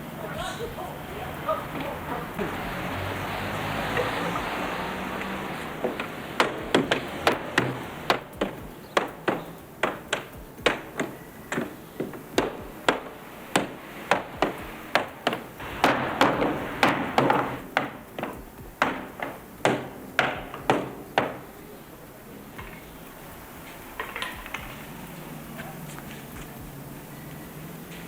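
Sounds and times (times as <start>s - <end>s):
hammer striking iron hoops: 0.0s - 22.0s, 22.6s - 26.9s.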